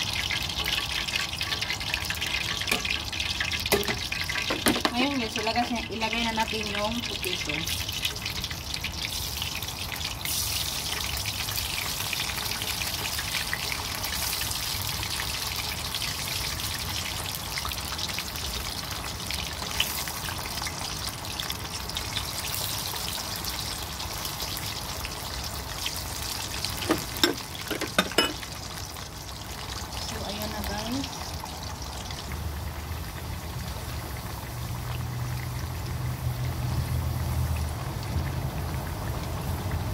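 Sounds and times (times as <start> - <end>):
potatoes sizzling in oil: 0.0 - 39.9.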